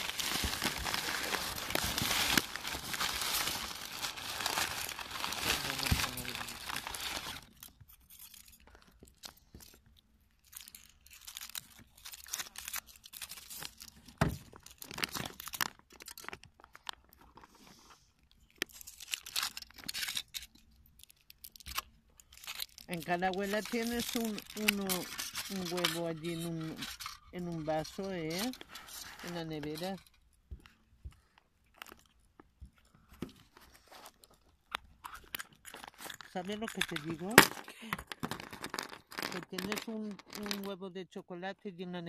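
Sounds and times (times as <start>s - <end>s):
foil wrapper crinkling: 0.0s - 40.8s.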